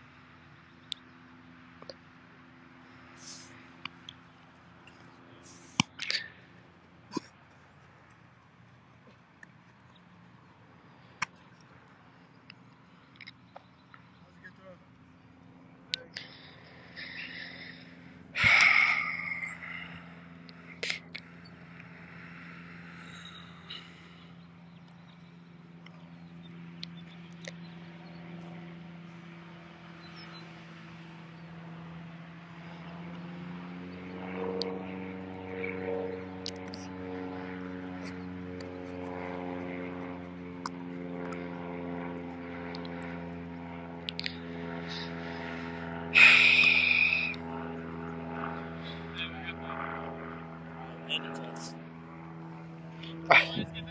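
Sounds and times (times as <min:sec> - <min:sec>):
engine drone: 0:00.0 - 0:53.9.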